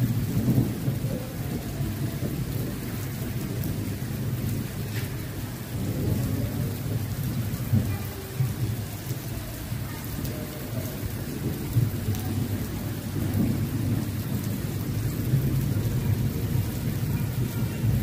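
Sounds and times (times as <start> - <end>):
heavy rain on water and concrete: 0.0 - 18.0.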